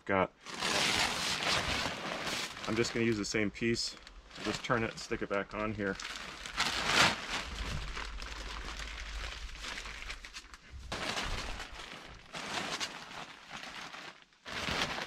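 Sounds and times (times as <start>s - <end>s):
plastic film crinkling: 0.4s - 15.0s.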